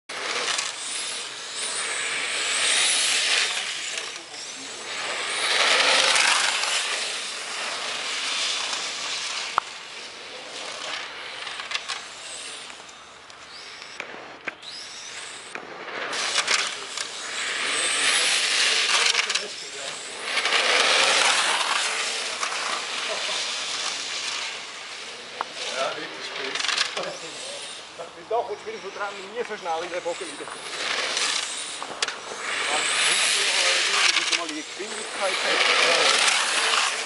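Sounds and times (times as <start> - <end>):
rc car motor passing: 0.1 - 37.0
rc car motor whine accelerating: 0.1 - 37.0.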